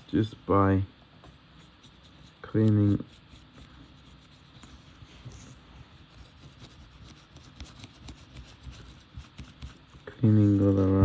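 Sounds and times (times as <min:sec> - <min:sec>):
faint scratching and rubbing: 0:01.2 - 0:11.0.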